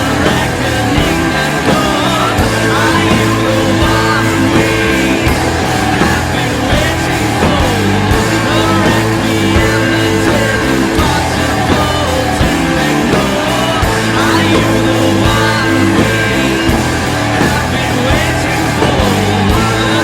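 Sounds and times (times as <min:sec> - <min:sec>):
bass: 0:00.0 - 0:20.0
drums: 0:00.0 - 0:20.0
guitars: 0:00.0 - 0:20.0.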